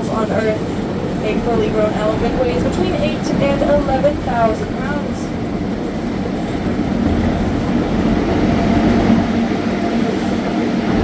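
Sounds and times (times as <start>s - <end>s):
miniature train running on track: 0.0s - 11.0s.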